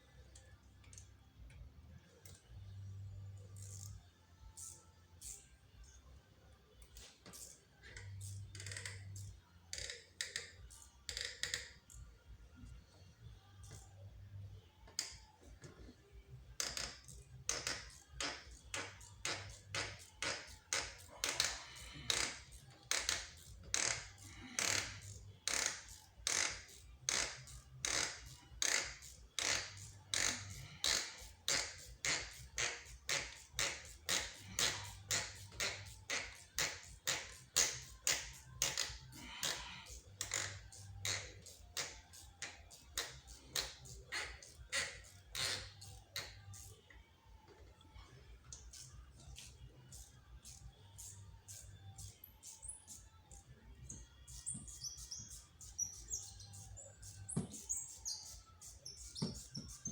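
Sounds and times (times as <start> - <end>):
ratchet wrench clicking: 3.5 - 5.5, 6.9 - 12.1, 16.6 - 46.8, 48.5 - 59.9.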